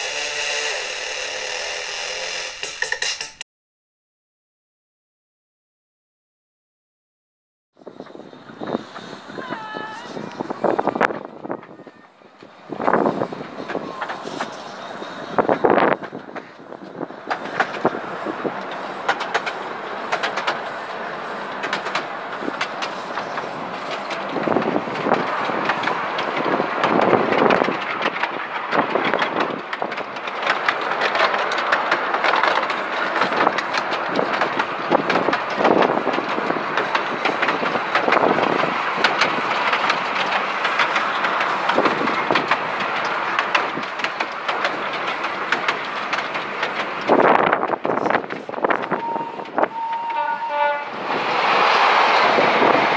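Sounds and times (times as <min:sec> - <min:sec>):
miniature train rumbling: 0:00.0 - 0:03.4, 0:07.8 - 0:52.9.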